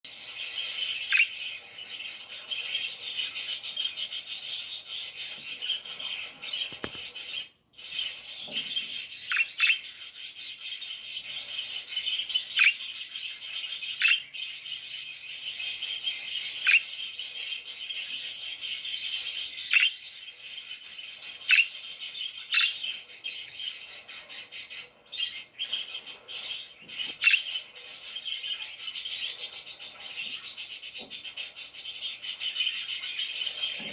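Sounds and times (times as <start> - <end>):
parakeets chirping: 0.1 - 33.9.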